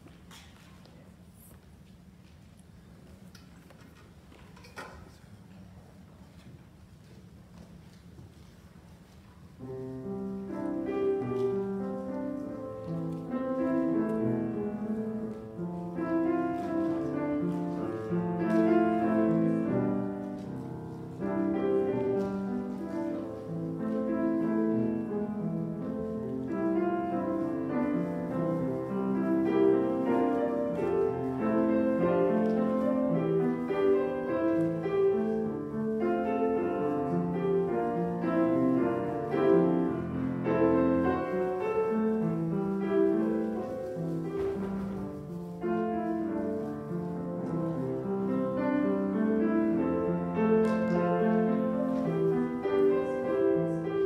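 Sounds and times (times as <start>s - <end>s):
piano piece: 6.7s - 54.0s.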